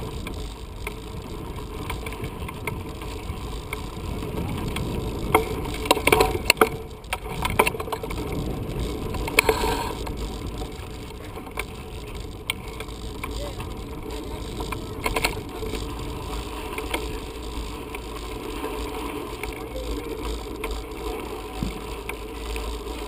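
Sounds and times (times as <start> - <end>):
bike rattling and clicking: 0.0 - 23.0
tyres rumbling on dirt: 0.0 - 23.0
wind: 0.0 - 23.0.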